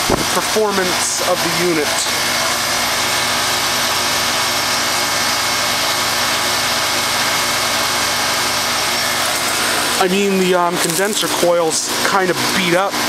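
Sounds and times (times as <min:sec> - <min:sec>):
air conditioner fan rushing: 0:00.0 - 0:13.0.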